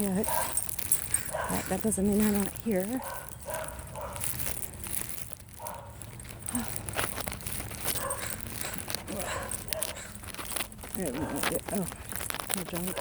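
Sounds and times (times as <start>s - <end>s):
footsteps through dry brush: 0.0s - 13.0s.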